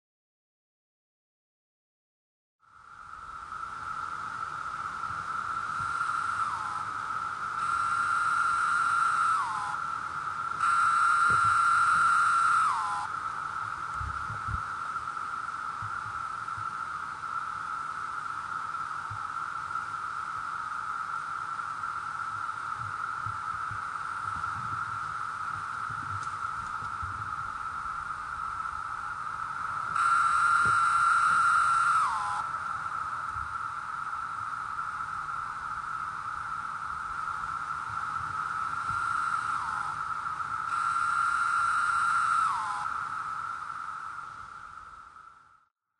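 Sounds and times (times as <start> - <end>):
cicadas droning buzz: 2.6 - 45.7.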